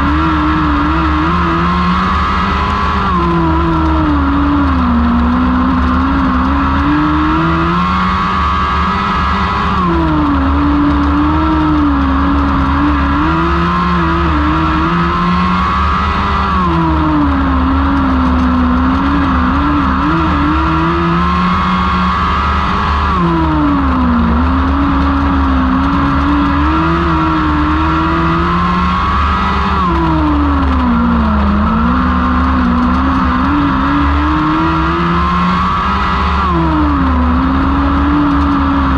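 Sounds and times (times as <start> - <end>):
racing car engines: 0.0 - 38.9.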